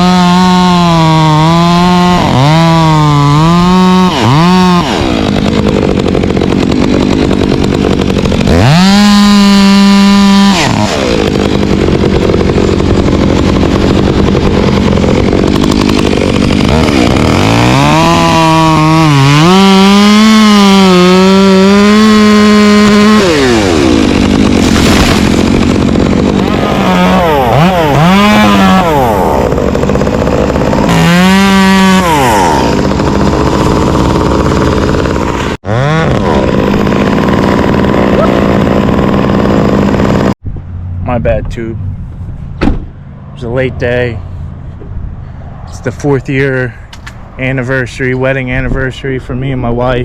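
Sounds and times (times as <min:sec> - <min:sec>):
chainsaw engine revving: 0:00.0 - 0:40.4.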